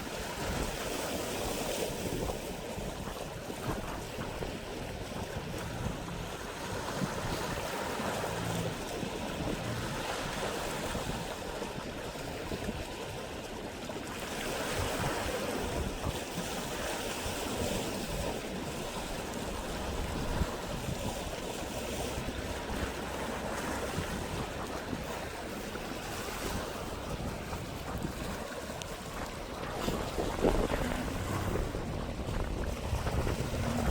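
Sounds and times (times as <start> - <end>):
sea waves washing on shore: 0.0 - 33.9
wind buffeting microphone: 0.0 - 33.9.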